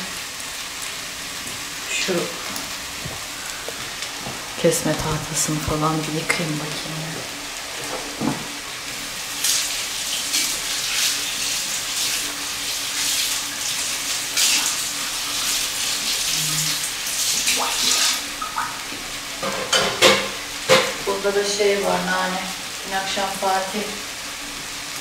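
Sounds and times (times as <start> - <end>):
pan sizzling on stove: 0.0 - 25.0
tap water running: 0.0 - 25.0.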